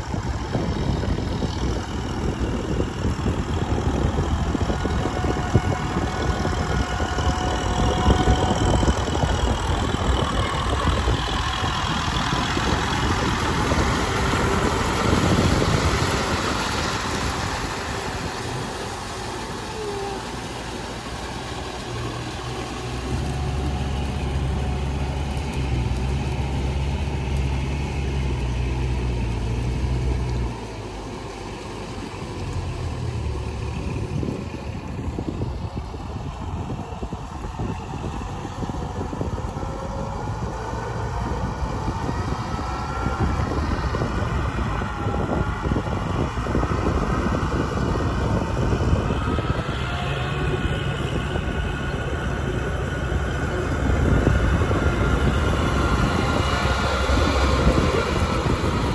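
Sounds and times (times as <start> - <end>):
tractor diesel engine under load: 0.0 - 58.9.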